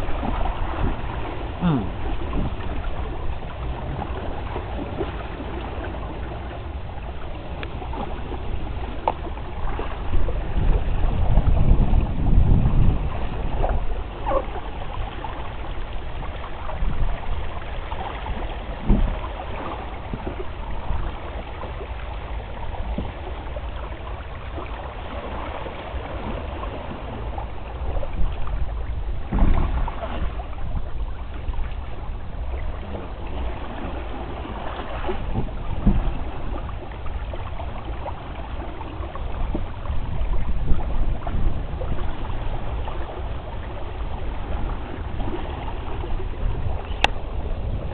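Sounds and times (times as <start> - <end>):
water rushing past hull: 0.0 - 47.9
wind rumbling on microphone: 0.0 - 47.9.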